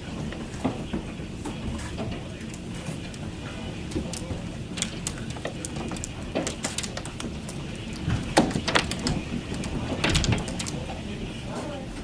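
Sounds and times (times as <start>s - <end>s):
low wind rumble: 0.0s - 12.0s
rainstorm: 0.0s - 12.0s.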